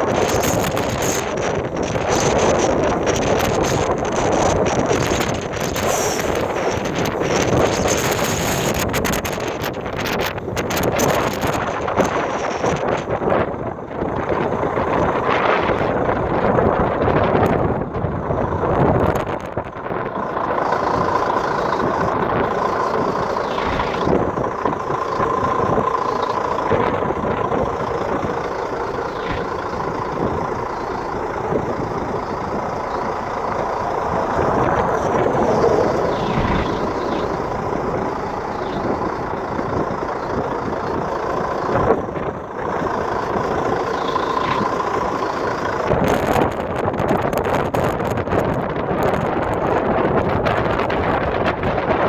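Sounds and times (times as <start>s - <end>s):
constant tone: 0.0s - 52.0s
vehicle engine running: 0.0s - 52.0s.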